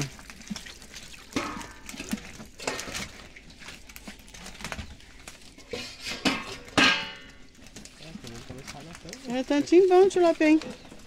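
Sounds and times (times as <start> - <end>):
fishing net rustling and slapping: 0.0 - 11.0.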